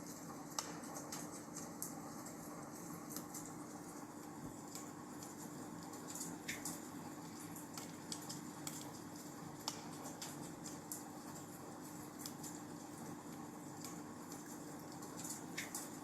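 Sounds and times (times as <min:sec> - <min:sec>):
faint steady hum: 0:00.0 - 0:16.0
wood fire crackling: 0:00.0 - 0:16.0.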